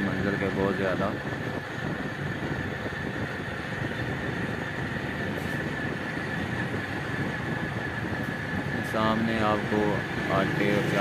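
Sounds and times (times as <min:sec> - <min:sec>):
high whine: 0:00.0 - 0:11.0
vehicle engine and road rumble: 0:00.0 - 0:11.0.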